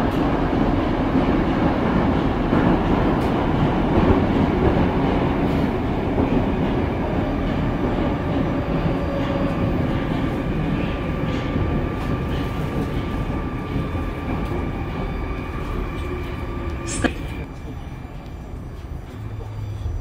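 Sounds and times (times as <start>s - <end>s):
metro train rumble: 0.0s - 20.0s.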